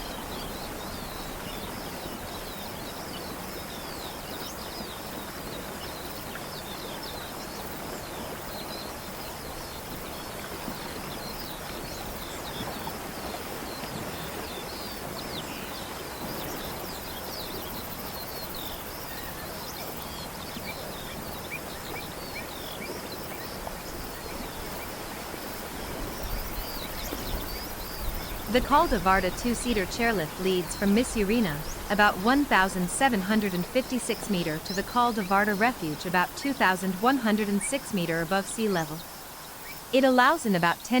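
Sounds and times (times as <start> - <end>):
outdoor background hiss: 0.0 - 41.0.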